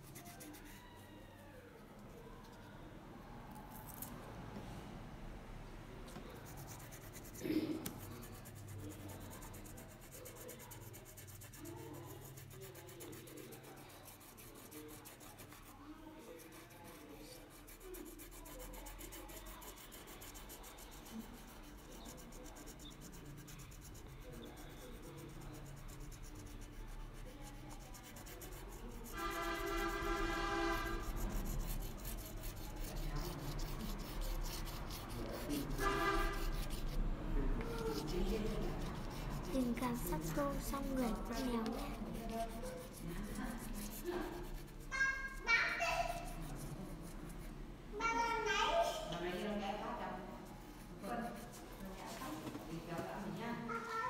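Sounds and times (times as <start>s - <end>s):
crayon scratching on paper: 0.0s - 1.1s, 6.2s - 47.6s, 48.3s - 53.3s.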